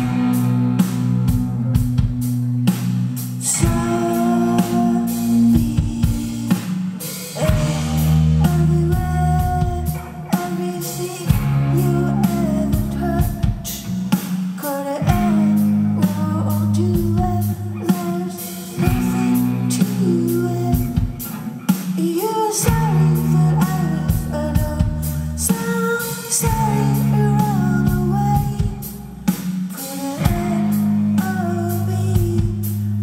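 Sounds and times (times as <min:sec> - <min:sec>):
bass notes: 0:00.0 - 0:06.8, 0:07.4 - 0:10.4, 0:11.2 - 0:14.2, 0:15.0 - 0:18.0, 0:18.8 - 0:21.3, 0:22.6 - 0:25.6, 0:26.4 - 0:29.4, 0:30.2 - 0:33.0
drum kit: 0:00.0 - 0:33.0
electric guitar: 0:00.0 - 0:33.0
woman singing: 0:03.2 - 0:33.0.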